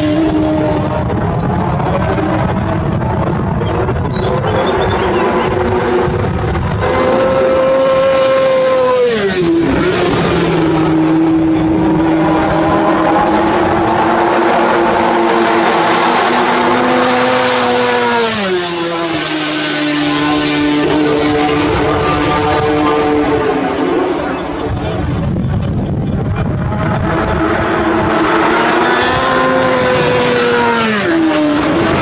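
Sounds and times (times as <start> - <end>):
racing motorcycles passing at speed: 0.0 - 32.0.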